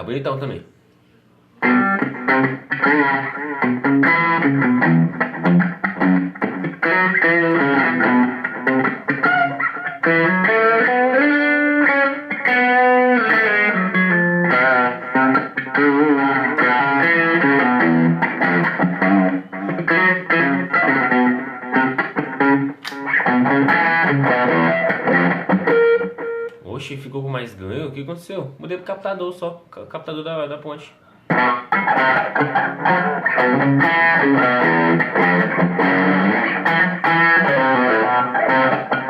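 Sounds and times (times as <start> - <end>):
distorted electric guitar notes: 1.6 - 26.6, 31.3 - 39.0.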